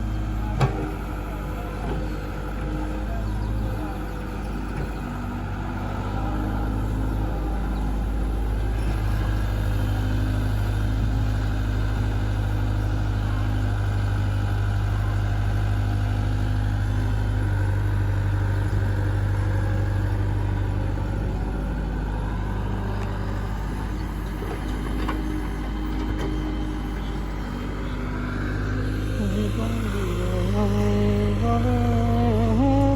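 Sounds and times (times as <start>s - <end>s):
diesel engine running steadily: 0.0s - 32.9s.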